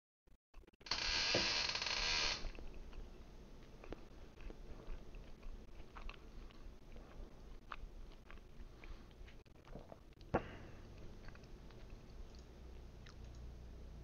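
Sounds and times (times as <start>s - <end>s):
person chewing food: 2.5s - 13.8s.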